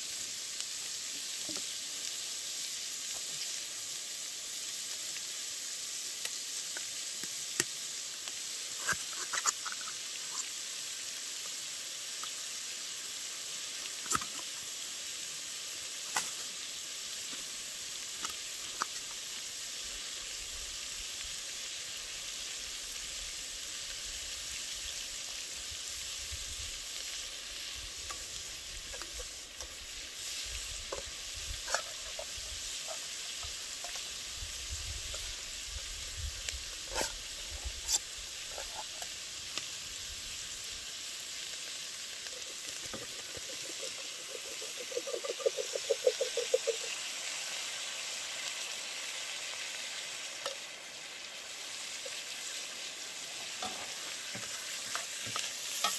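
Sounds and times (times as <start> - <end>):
meat sizzling in a pot: 0.0 - 55.9.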